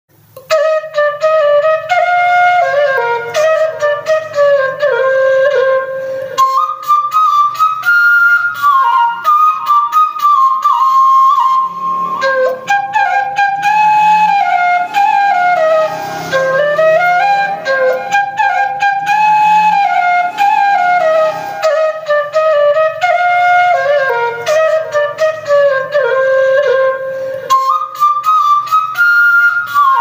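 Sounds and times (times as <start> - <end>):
bamboo flute melody: 0.2 - 30.0.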